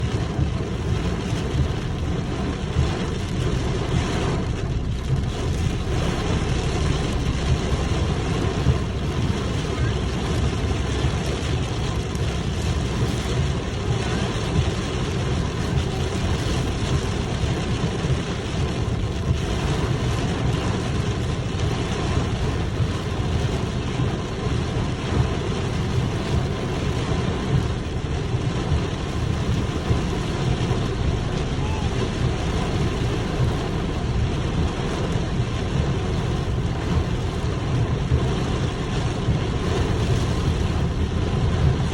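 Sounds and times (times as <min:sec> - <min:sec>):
heavy rain hiss: 0:00.0 - 0:41.9
wind buffeting microphone: 0:00.0 - 0:41.9.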